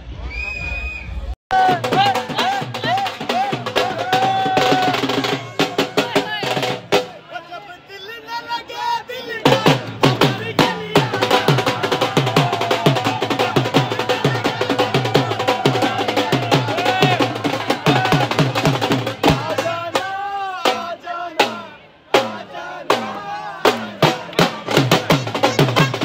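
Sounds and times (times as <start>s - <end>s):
crowd chanting and shouting: 0.0s - 26.0s
dhol drum beating fast: 1.5s - 7.2s, 9.4s - 26.0s.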